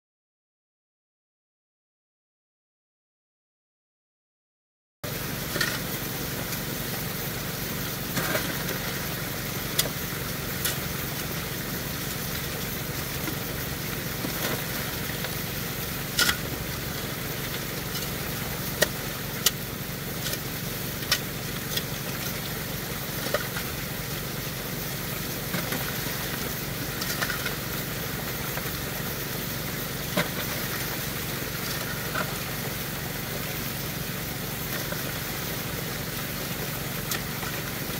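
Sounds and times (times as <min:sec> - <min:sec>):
small gas engine running: 0:05.1 - 0:37.9.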